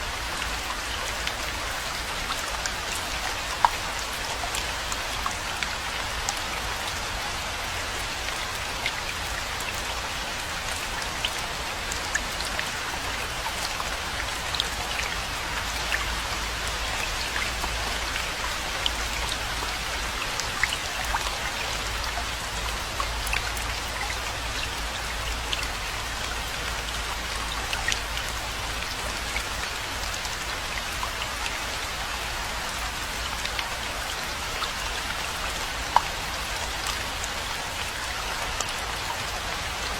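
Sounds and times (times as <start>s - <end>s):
raindrops ticking on a surface: 0.0s - 39.9s.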